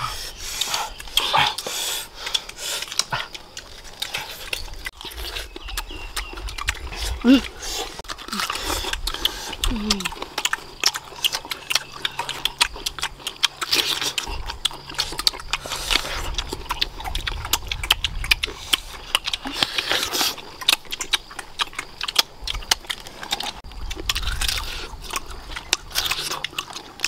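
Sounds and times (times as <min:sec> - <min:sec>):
mango being chewed: 0:00.0 - 0:27.0.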